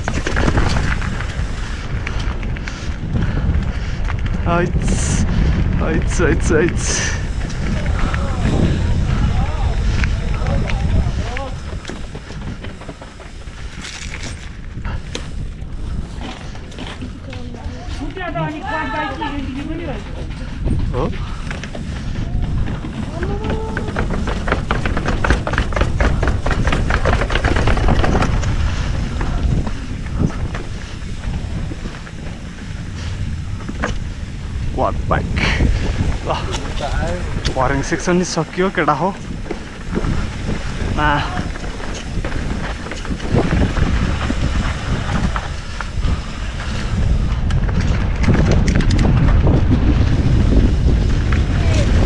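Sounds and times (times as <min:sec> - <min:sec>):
mountain bike rattling on trail: 0:00.0 - 0:52.0
wind rumble on microphone: 0:00.0 - 0:52.0.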